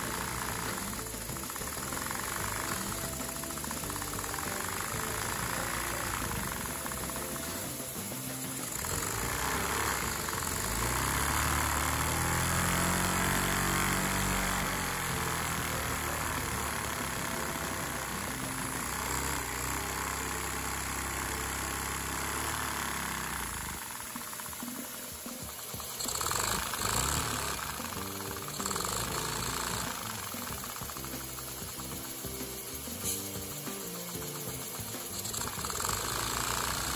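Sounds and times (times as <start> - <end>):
toy engine running: 0.0 - 36.9.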